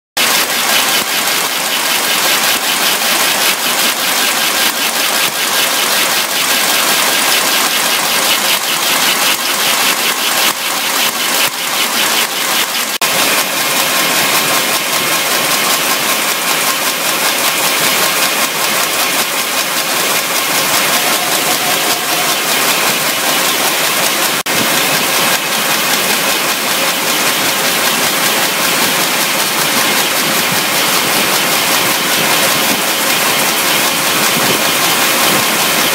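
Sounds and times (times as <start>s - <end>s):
welding machine clatter and ticking: 0.2s - 35.9s.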